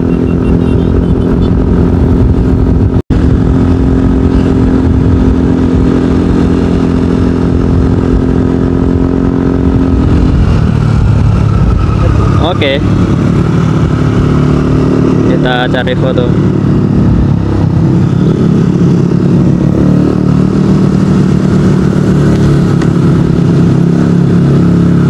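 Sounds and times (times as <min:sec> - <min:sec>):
motor scooter engine running: 0:00.0 - 0:25.0
wind and road noise: 0:00.0 - 0:25.0.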